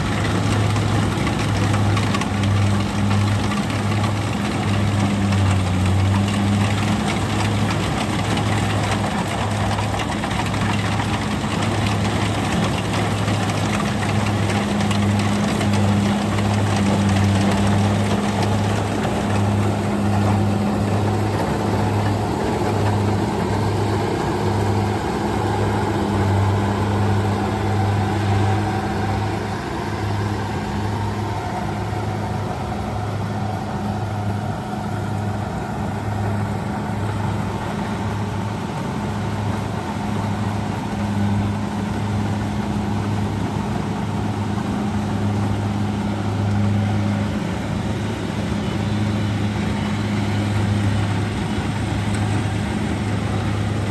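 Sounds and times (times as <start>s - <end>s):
diesel engine humming: 0.0s - 53.9s
working machine noise: 0.0s - 53.9s.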